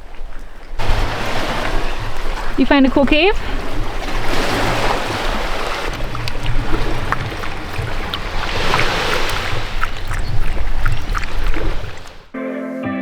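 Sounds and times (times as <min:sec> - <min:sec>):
ocean waves on rocky shore: 0:00.0 - 0:12.3
small splashes: 0:00.0 - 0:12.3
wind buffeting microphone: 0:00.0 - 0:12.3.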